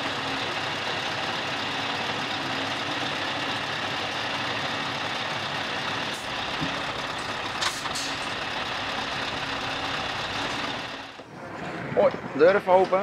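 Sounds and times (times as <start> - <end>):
diesel engine running at low revs: 0.0 - 12.8.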